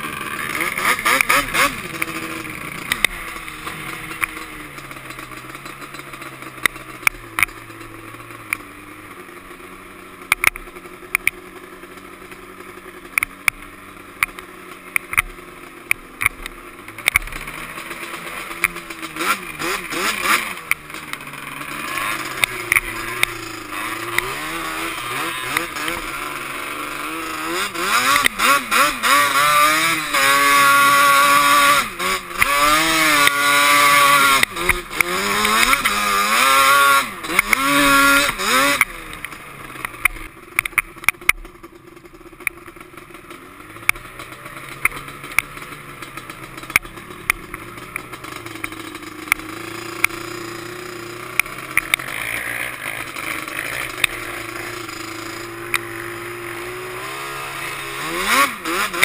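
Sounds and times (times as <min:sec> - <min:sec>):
two-stroke quad engine revving: 0:00.0 - 0:59.0.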